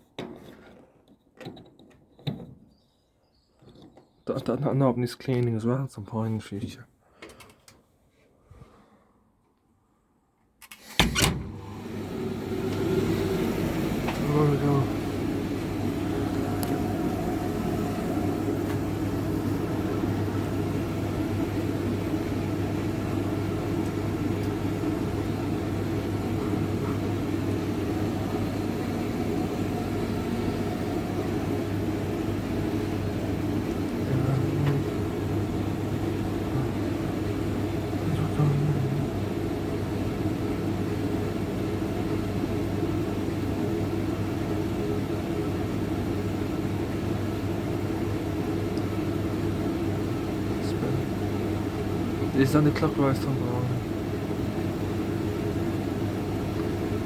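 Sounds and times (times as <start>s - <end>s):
tumble dryer humming: 10.8s - 57.0s.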